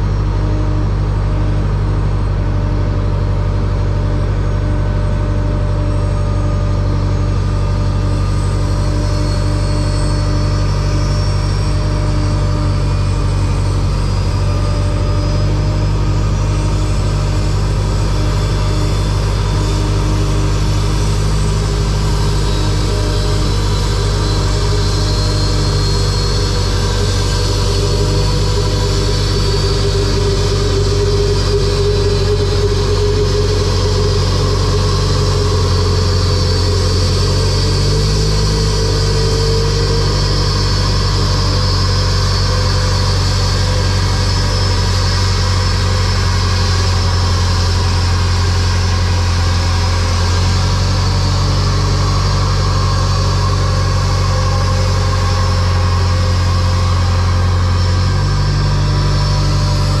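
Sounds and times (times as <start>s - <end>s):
high whine: 0.0s - 60.0s
tug engine humming: 0.0s - 60.0s.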